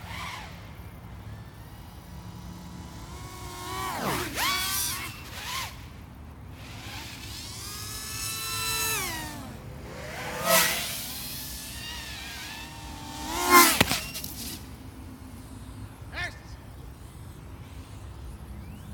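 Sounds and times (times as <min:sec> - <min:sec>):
drone flying by: 0:00.0 - 0:18.9
quadcopter motors whining: 0:00.0 - 0:18.9.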